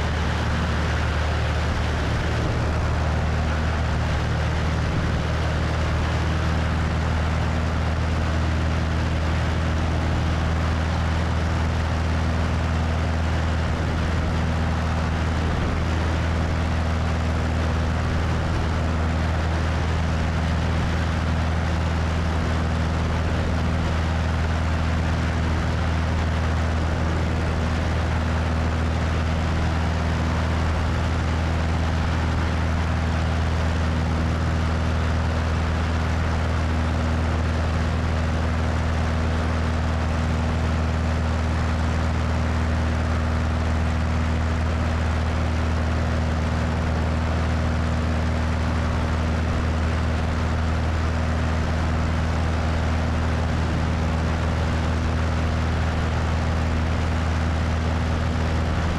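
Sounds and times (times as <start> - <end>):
propeller plane engine drone: 0.0 - 58.9.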